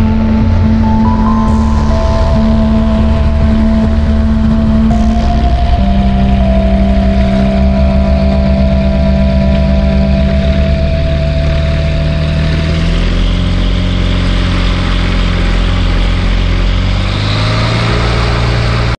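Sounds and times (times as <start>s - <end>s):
light aircraft engine and propeller: 0.0s - 19.0s.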